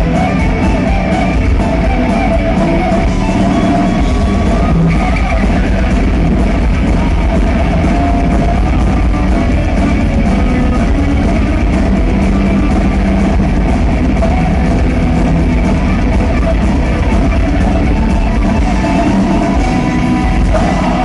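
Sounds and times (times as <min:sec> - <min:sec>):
heavy metal band playing live: 0:00.0 - 0:21.0.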